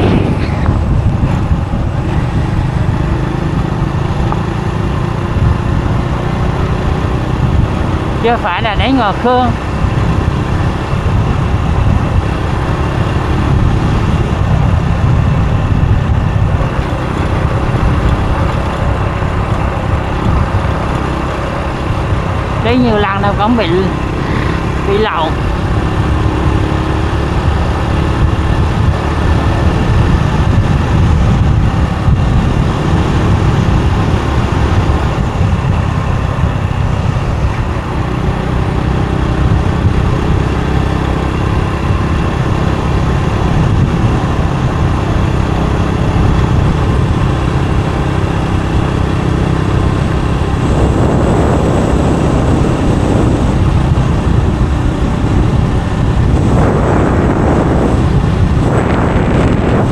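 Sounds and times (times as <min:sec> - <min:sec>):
motorbike engine and road noise: 0:00.0 - 0:59.9
rushing noise with high whine: 0:00.0 - 0:59.9
wind rumble on microphone: 0:00.0 - 0:59.9.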